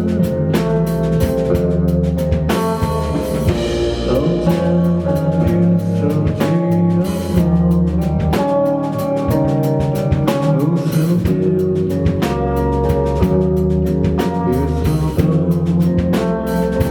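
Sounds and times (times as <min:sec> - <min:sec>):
band playing live: 0:00.0 - 0:16.9
drum kit beat: 0:00.0 - 0:16.9.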